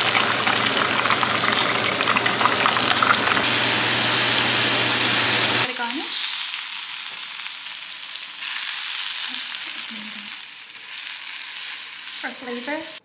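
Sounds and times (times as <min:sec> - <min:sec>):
fish deep-frying in oil: 0:00.0 - 0:13.0
onions sizzling in a pan: 0:00.0 - 0:13.0.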